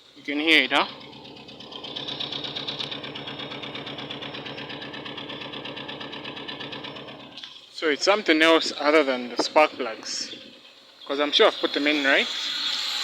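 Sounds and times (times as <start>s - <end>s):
engine idling with misfire: 0.0s - 13.0s.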